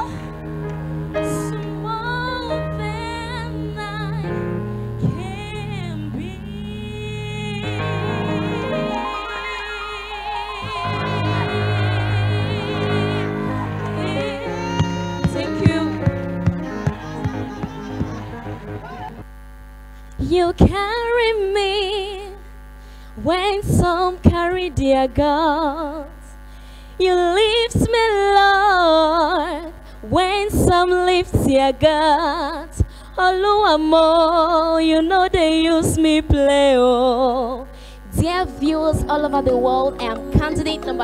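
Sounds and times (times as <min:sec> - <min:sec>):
electrical hum: 0:00.0 - 0:41.0
woman singing gospel: 0:01.2 - 0:08.8, 0:09.9 - 0:19.1, 0:23.2 - 0:26.3, 0:27.0 - 0:41.0.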